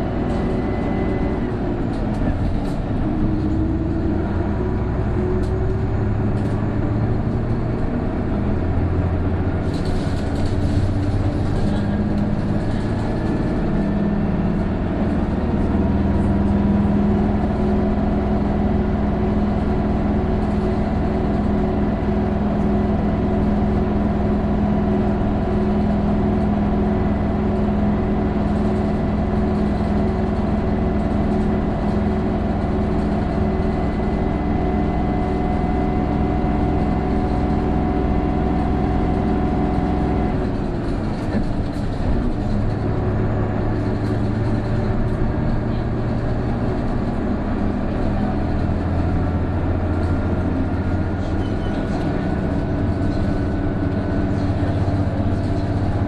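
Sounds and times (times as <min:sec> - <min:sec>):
bus diesel engine pulling uphill: 0:00.0 - 0:56.0.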